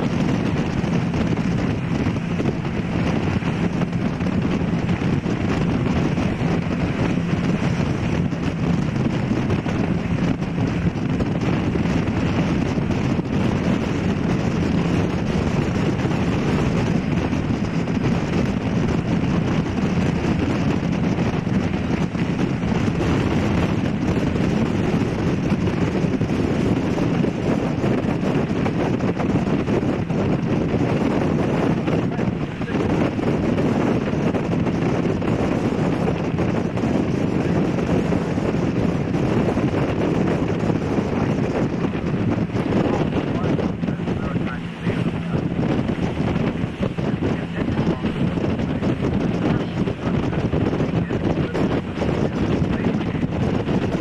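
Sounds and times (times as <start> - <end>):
boat engine humming: 0.0 - 54.0
water rushing past hull: 0.0 - 54.0
wind noise on microphone: 0.0 - 54.0.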